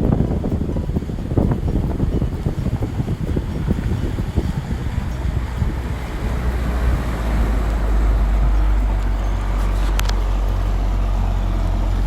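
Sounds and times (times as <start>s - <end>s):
motorboat engine running: 0.0s - 12.0s
wind rumbling on microphone: 0.0s - 12.0s.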